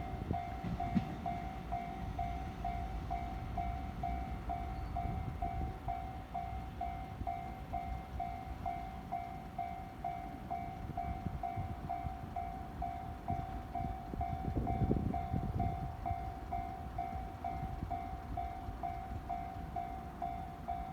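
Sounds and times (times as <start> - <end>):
electric train rumbling: 0.0 - 20.9
level crossing warning bell: 0.0 - 20.9.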